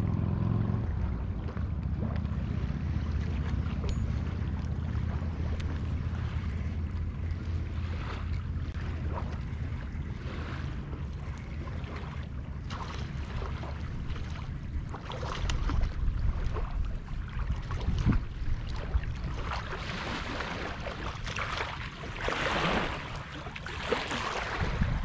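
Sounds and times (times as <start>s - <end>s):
low wind rumble on microphone: 0.0s - 25.0s
fish splashing in shallow water: 0.1s - 25.0s.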